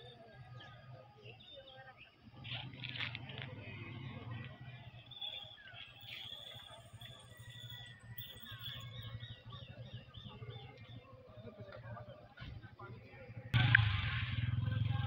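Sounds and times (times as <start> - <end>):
birds chirping and calling: 0.0 - 13.6
faint motorcycle engine hum: 0.0 - 15.0.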